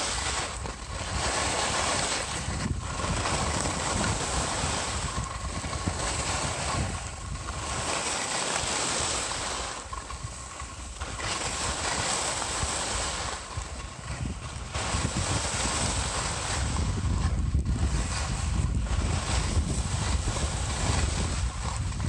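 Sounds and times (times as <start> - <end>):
ski edges scraping snow: 0.0 - 22.0
wind buffeting microphone: 0.0 - 22.0.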